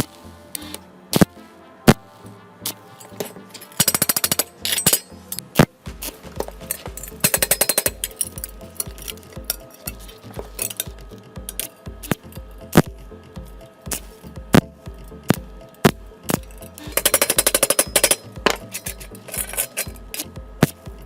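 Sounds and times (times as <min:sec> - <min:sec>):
music with steady beat: 0:00.0 - 0:21.0.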